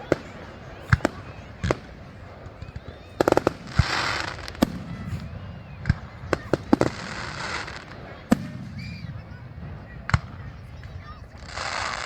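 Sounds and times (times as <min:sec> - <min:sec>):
fireworks bangs: 0:00.0 - 0:12.0
fizzing crackle of fireworks: 0:00.0 - 0:12.0.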